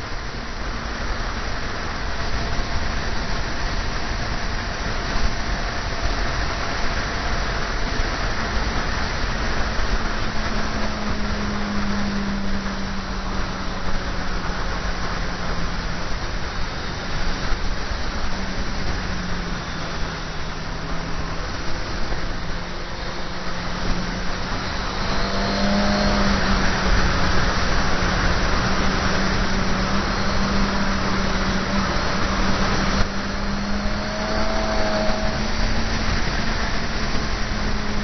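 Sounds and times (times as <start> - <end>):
motorcycle engine drone: 0.0 - 38.0
wind rushing over microphone: 0.0 - 38.0.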